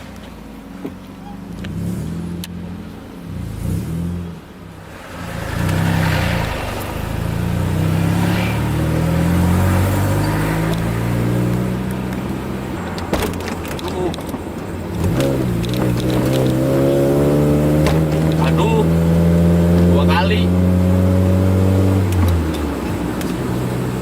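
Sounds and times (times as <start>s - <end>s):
car engine accelerating hard: 1.4s - 24.0s.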